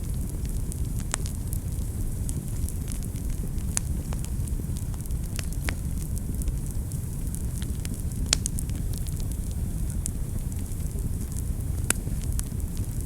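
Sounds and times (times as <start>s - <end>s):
fire crackles and pops: 0.0s - 13.0s
fire rumbling in fireplace: 0.0s - 13.0s.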